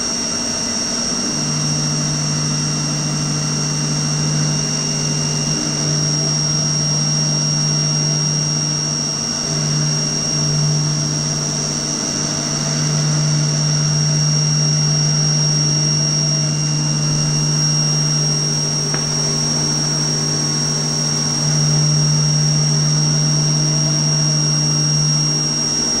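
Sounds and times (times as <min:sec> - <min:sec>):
constant high whine: 0:00.0 - 0:26.0
lathe machine hum: 0:00.0 - 0:26.0.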